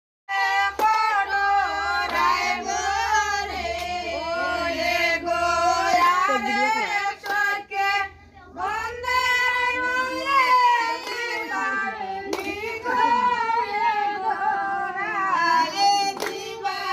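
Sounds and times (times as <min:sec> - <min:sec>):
woman singing: 0:00.3 - 0:16.9.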